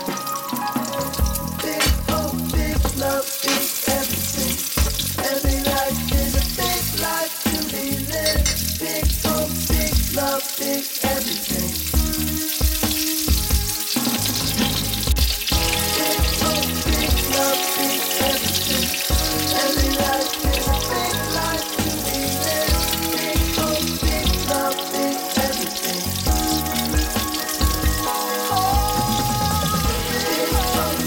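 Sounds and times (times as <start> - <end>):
background music with beat: 0.0 - 31.0
food sizzling in oil: 0.0 - 31.0.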